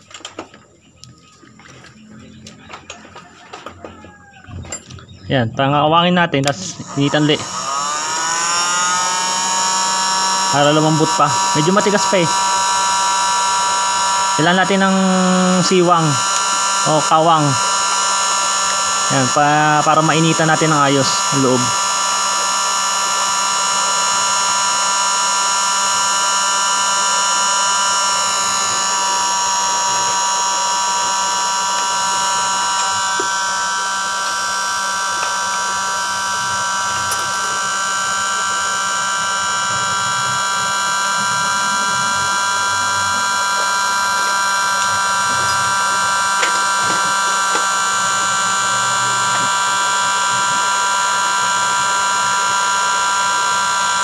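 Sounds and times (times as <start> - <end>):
heat gun fan whine: 2.8 - 54.0.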